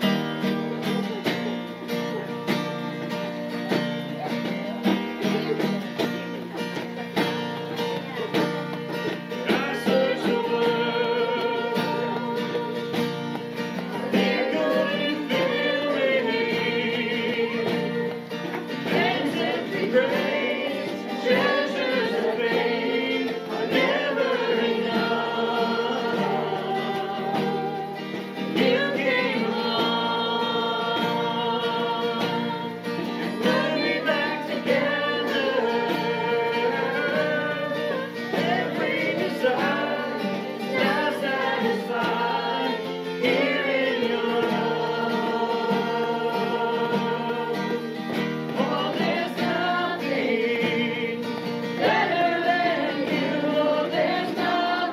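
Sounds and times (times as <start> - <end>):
guitar accompaniment: 0.0 - 54.9
group of voices singing: 3.8 - 54.9.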